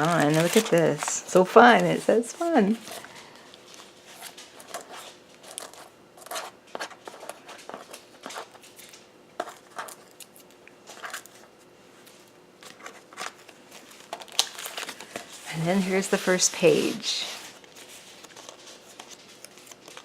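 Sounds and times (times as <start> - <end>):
paper rustling: 0.0 - 20.0.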